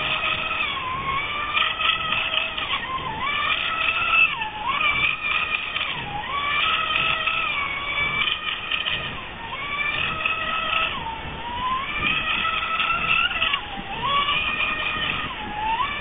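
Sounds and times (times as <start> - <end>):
model boat motor whining: 0.0 - 16.0.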